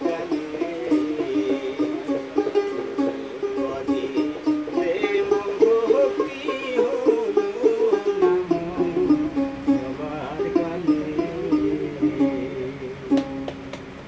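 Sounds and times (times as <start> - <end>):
man singing: 0.0 - 13.2
plucked lute melody: 0.0 - 14.0.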